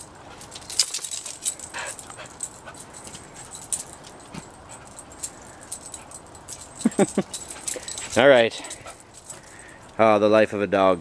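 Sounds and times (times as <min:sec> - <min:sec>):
dog moving on concrete: 0:00.0 - 0:10.0
dog collar tags jingling: 0:00.0 - 0:10.2.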